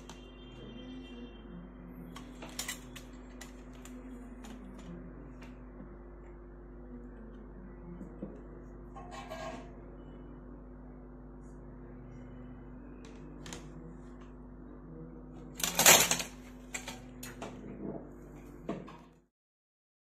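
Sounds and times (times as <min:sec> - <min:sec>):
low electrical hum: 0:00.0 - 0:19.3.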